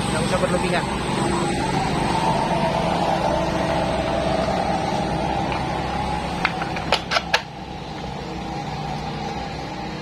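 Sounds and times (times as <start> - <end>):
faint wavering whine: 0.0 - 10.0.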